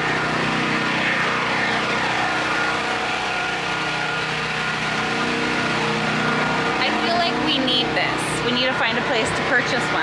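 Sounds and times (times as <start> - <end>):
engine running: 0.0 - 10.0
high whine falling in pitch: 0.0 - 10.0.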